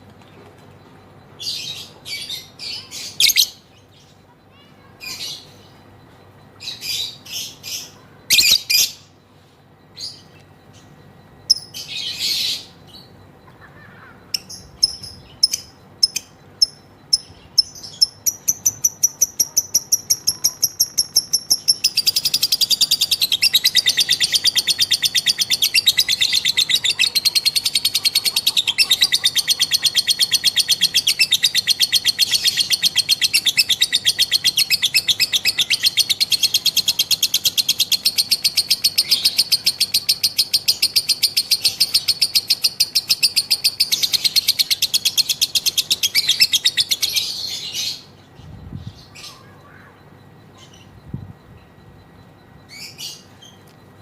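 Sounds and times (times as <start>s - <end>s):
lovebird chirping and trilling: 1.4s - 9.2s, 9.9s - 53.7s.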